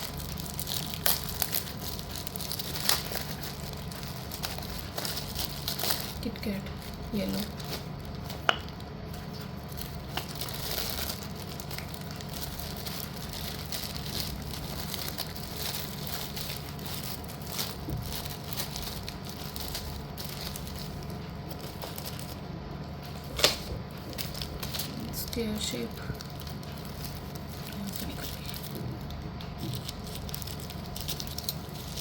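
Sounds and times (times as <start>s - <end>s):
packaging crinkling and rustling: 0.0s - 32.0s.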